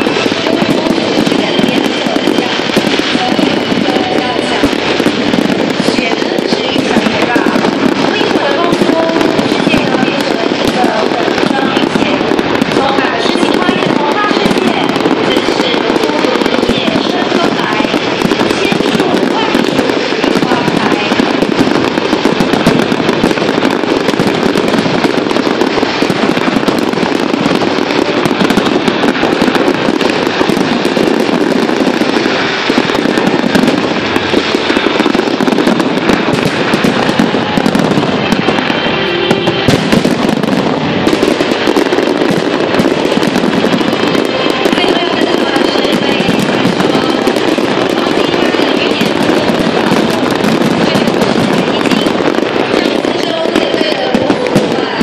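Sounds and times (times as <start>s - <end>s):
fireworks crackling and popping: 0.0s - 55.0s.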